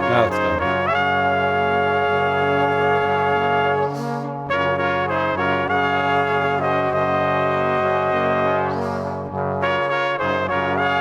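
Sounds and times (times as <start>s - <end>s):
brass instruments playing chords: 0.0s - 11.0s.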